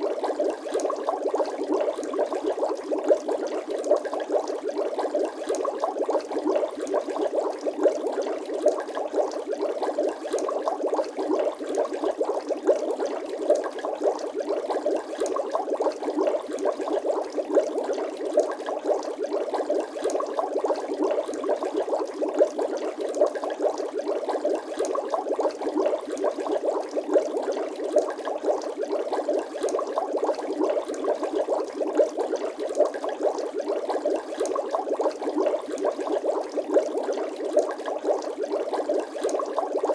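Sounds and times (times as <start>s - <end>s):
water bubbling and gurgling: 0.0s - 39.9s.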